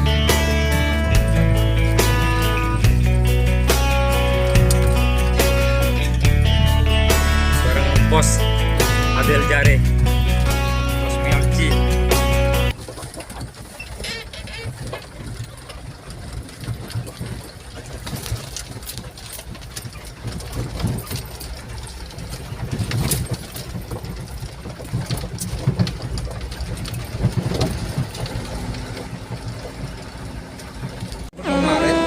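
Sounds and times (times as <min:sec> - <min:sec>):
clicks and rattles: 0:00.0 - 0:07.8, 0:08.4 - 0:31.3
truck engine rumbling: 0:00.0 - 0:32.0.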